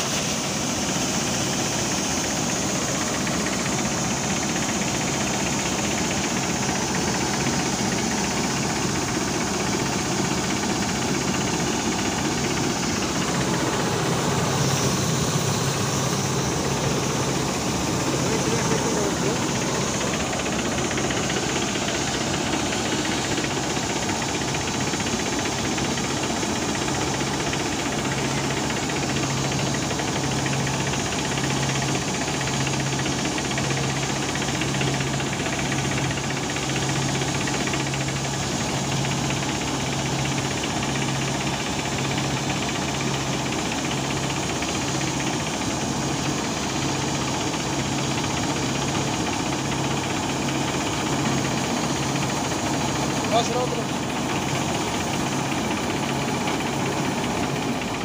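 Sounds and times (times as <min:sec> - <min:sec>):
combine harvester running: 0:00.0 - 0:58.0
grain pouring from auger: 0:00.0 - 0:58.0.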